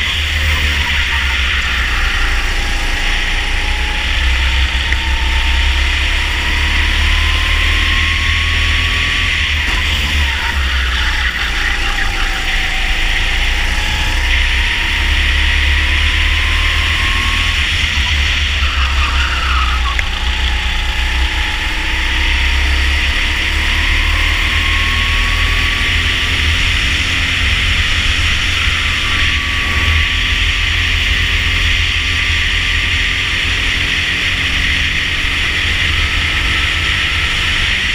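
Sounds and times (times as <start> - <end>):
go-kart engine racing: 0.0 - 37.9.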